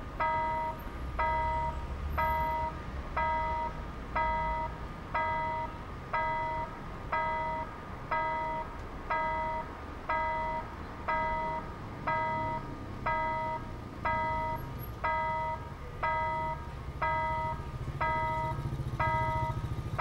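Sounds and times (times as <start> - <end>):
level crossing warning bell ringing: 0.2 - 20.0.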